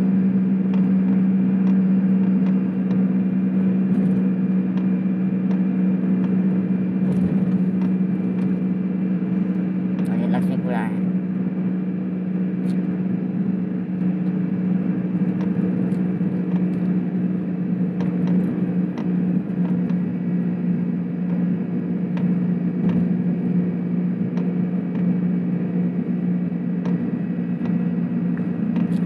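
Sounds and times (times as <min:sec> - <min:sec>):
car engine and road drone: 0:00.0 - 0:29.0.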